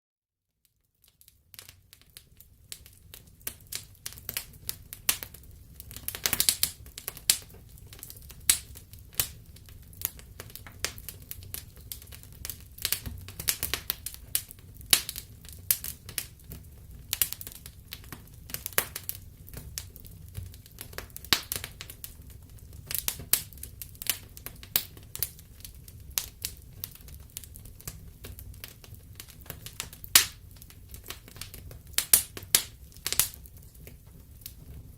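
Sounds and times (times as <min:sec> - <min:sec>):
wood fire crackling and popping: 0:00.8 - 0:34.9
low rumble of flames: 0:01.4 - 0:34.9.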